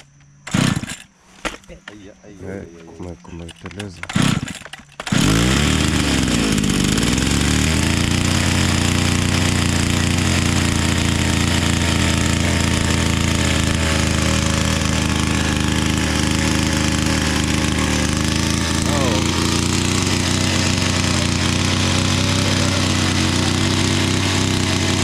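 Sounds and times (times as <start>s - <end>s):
chainsaw engine running: 0.4s - 1.1s, 3.5s - 25.0s.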